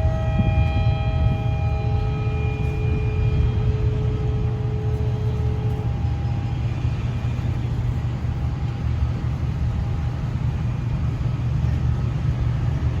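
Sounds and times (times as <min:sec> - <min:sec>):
distant ships' horns: 0:00.0 - 0:12.9
harbour rumble: 0:00.0 - 0:13.0.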